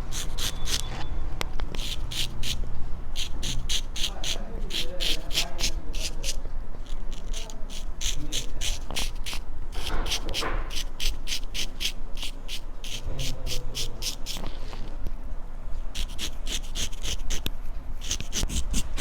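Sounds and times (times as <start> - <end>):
razor scraping across scalp: 0.1 - 0.9, 1.8 - 2.6, 3.2 - 14.4, 16.0 - 19.0.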